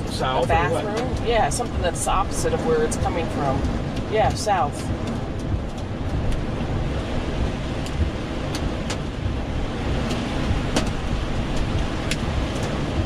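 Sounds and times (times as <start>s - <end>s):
low storm rumble: 0.0s - 13.0s
rain ticking on car roof: 0.0s - 13.0s.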